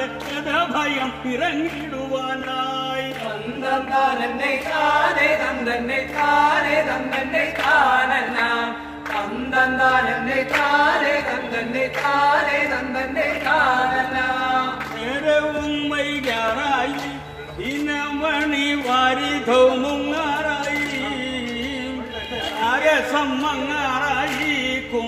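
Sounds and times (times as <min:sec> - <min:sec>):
person singing devotional song: 0:00.0 - 0:25.0.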